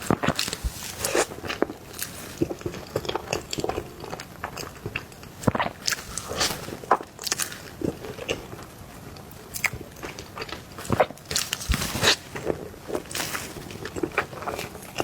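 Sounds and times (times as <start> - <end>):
biting and chewing cake: 0.0 - 15.0.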